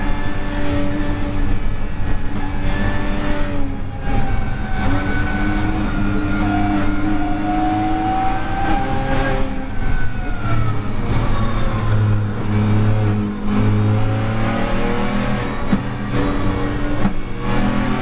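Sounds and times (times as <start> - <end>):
car engine at full throttle: 0.0 - 18.0.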